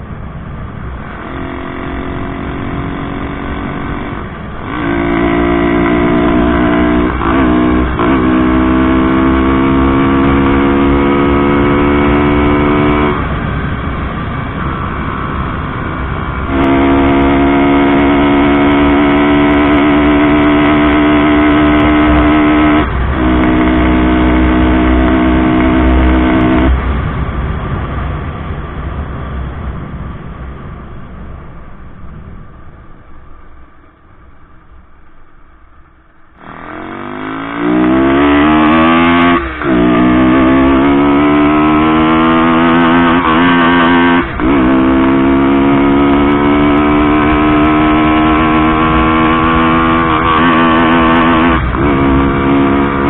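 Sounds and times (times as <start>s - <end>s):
low rumble: 0.0s - 53.0s
motorcycle engine accelerating: 0.0s - 53.0s.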